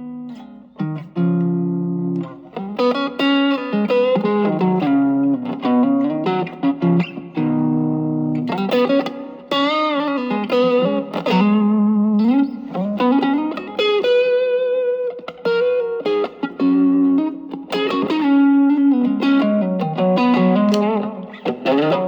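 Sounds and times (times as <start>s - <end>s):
overdriven electric guitar playing: 0.0s - 22.0s.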